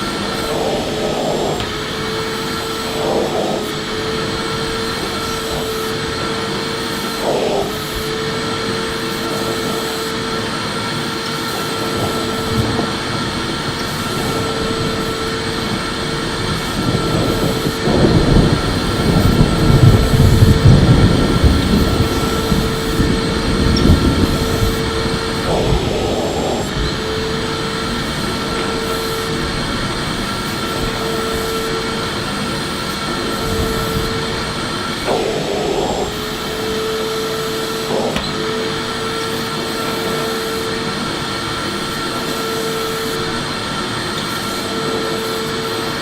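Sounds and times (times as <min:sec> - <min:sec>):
vacuum cleaner motor whine: 0:00.0 - 0:46.0.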